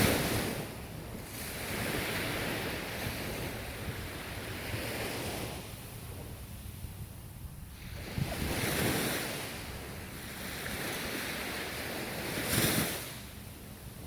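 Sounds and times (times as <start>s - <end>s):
ocean waves breaking: 0.0s - 6.6s, 7.7s - 13.8s
wind rumble on microphone: 0.0s - 14.0s.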